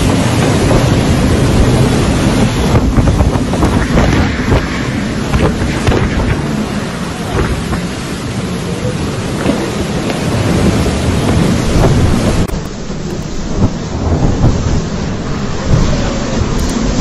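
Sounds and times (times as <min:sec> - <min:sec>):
heavy rain: 0:00.0 - 0:17.0
strong gusting wind: 0:00.0 - 0:17.0
wind rumble on microphone: 0:00.0 - 0:17.0.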